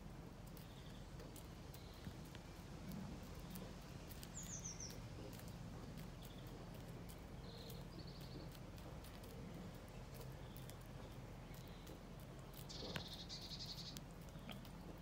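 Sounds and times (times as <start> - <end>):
beaks clicking on corn kernels: 0.0 - 15.0
bird chirping: 0.5 - 2.6, 3.4 - 15.0.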